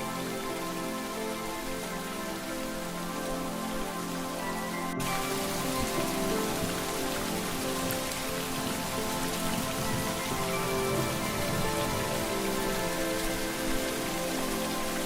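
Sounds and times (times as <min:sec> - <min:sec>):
soft ambient music: 0:00.0 - 0:15.0
steady rain falling: 0:00.0 - 0:15.0.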